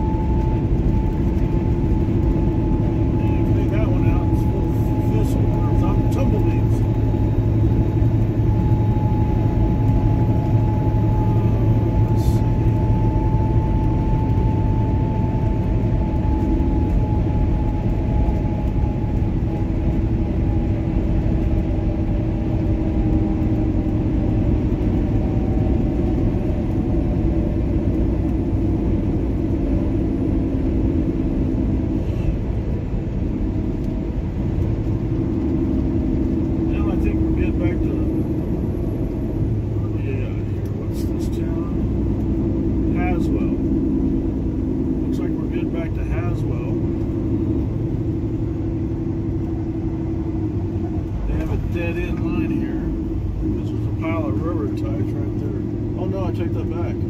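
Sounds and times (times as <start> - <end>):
high whine dropping in pitch: 0.0 - 57.0
vehicle engine drone: 0.0 - 57.0.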